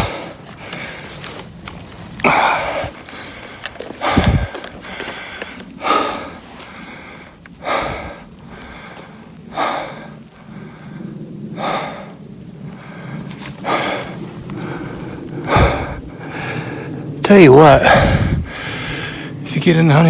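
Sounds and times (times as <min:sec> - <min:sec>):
man breathing hard: 0:00.0 - 0:19.4.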